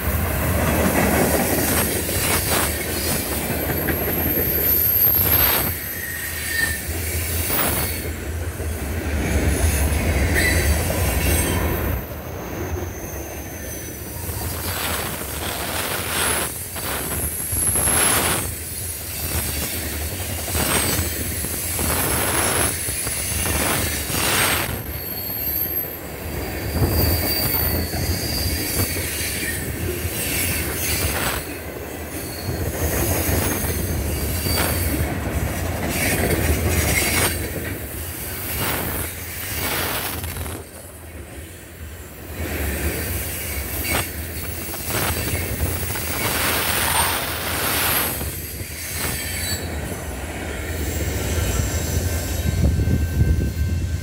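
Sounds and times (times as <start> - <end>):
train rumble: 0.0 - 54.0
train wheels squealing: 0.0 - 54.0.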